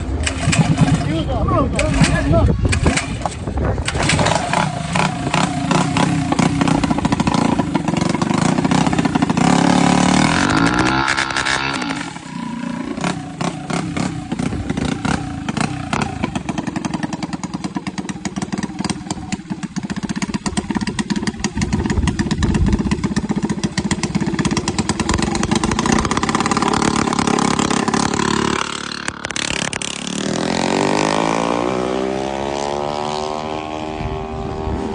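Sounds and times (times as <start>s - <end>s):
small engine revving: 0.0s - 19.2s, 20.1s - 34.9s.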